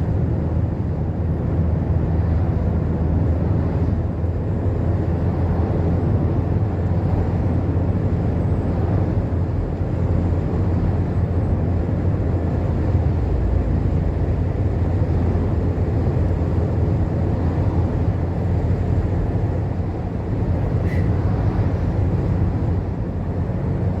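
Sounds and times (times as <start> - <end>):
vehicle road and engine drone: 0.0 - 24.0.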